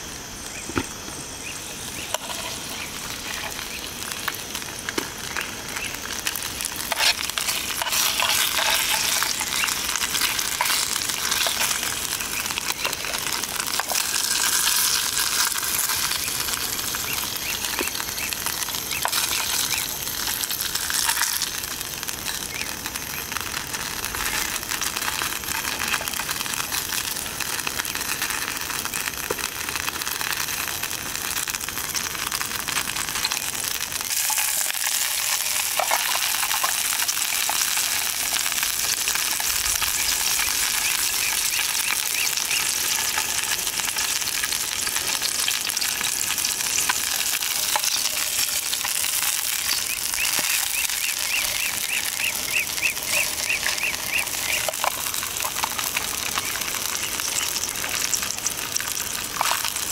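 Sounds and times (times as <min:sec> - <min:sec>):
meat sizzling in oil: 0:00.0 - 0:59.9.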